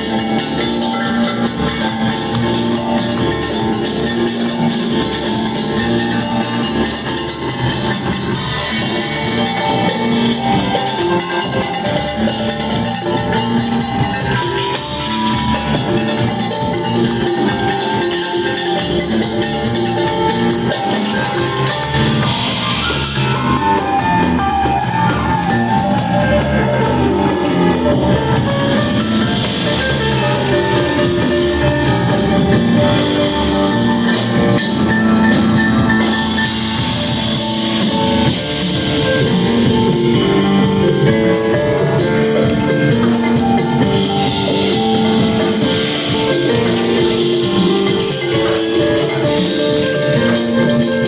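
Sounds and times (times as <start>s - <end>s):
rock band playing live: 0.0s - 51.0s.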